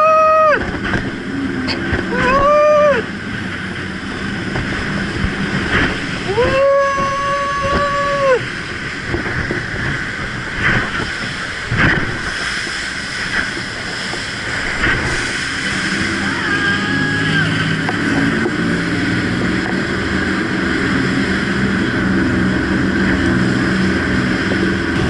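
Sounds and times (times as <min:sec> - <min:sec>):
jet boat engine and water rush: 0:00.0 - 0:25.0.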